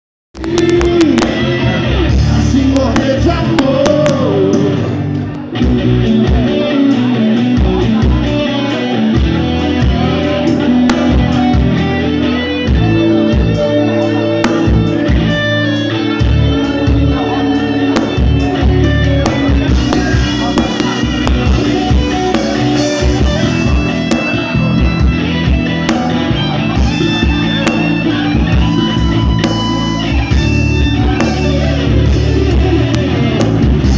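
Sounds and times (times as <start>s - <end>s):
band playing music: 0.4s - 33.9s
electric guitar: 0.4s - 33.9s.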